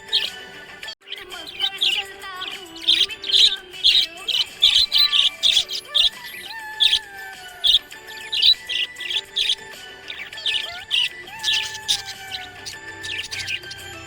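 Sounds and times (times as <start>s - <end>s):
budgerigar chirping: 0.0s - 0.4s, 1.0s - 14.0s.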